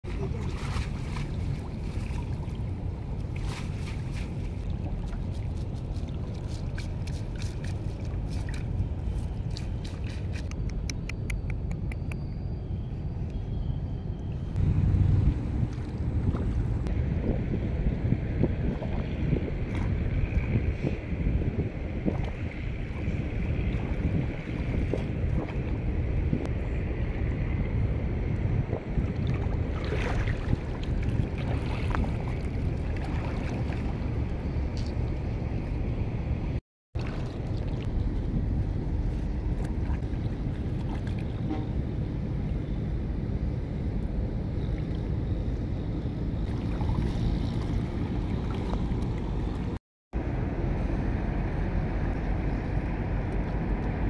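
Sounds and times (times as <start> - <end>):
water sloshing and splashing: 0.0 - 10.7, 14.3 - 36.1, 36.9 - 49.8
wind rumbling on microphone: 0.0 - 54.0.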